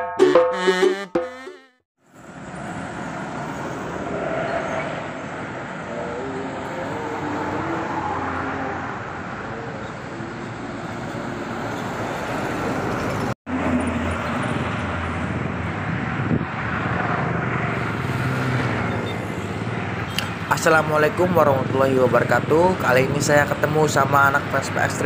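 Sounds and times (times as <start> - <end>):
road traffic passing: 0.0 - 25.0.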